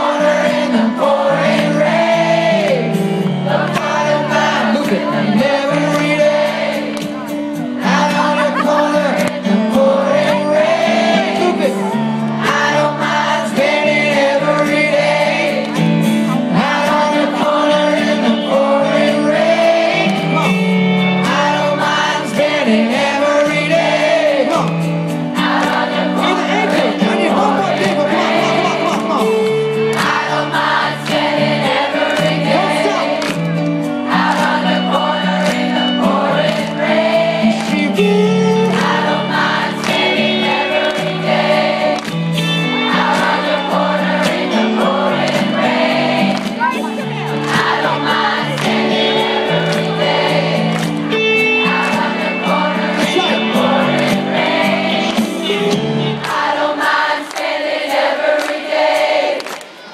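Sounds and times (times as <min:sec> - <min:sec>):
live pop-rock band playing: 0:00.0 - 0:57.2
lead singer singing: 0:00.0 - 0:59.5
crowd singing along: 0:00.0 - 0:59.9.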